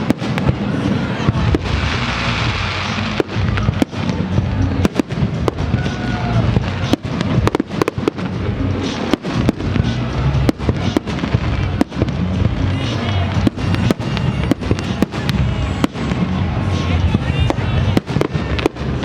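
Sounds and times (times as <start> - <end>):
fireworks bangs and cracks: 0.0 - 19.0
low rumble: 0.4 - 19.0.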